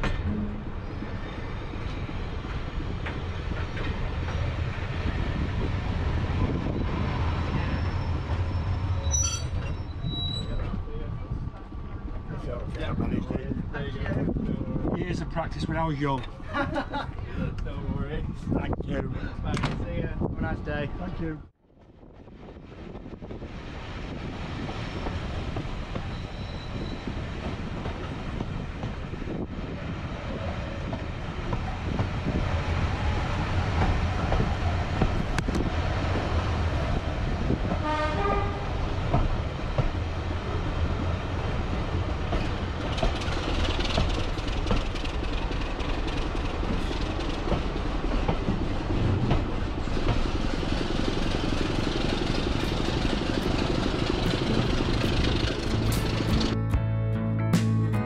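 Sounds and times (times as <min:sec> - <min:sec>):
train running on rails: 0:00.0 - 0:56.6.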